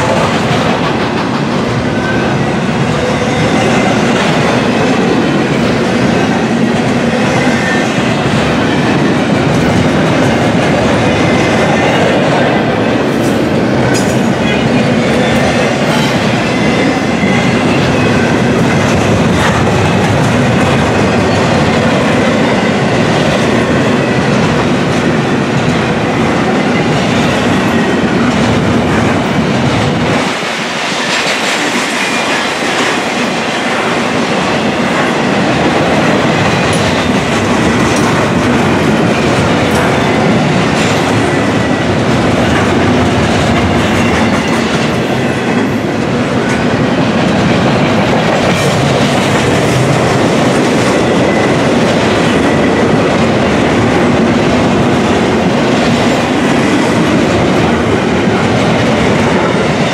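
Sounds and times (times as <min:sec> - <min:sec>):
rail clicks: 0:00.0 - 0:59.9
train wheels rumbling on rails: 0:00.0 - 0:59.9.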